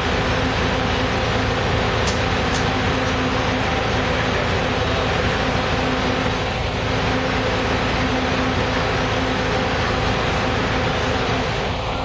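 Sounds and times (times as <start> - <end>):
transit vehicles running: 0.0 - 12.0.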